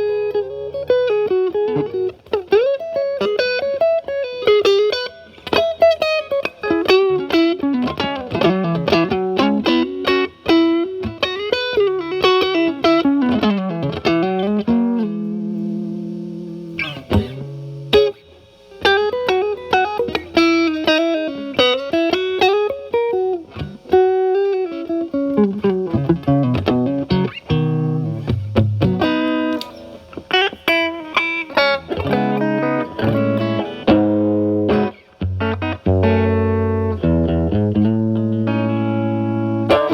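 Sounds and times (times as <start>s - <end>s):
overdriven electric guitar lead: 0.0s - 39.9s.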